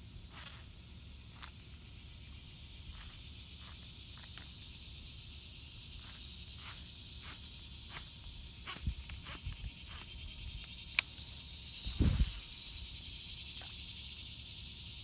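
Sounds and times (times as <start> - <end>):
high insect chorus: 0.0 - 15.0.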